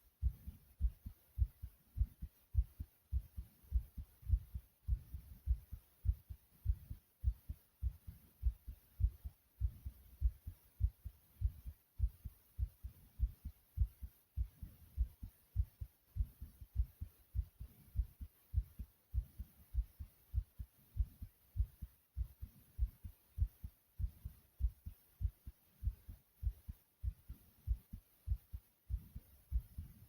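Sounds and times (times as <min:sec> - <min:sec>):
heartbeat thumping: 0:00.2 - 0:30.0.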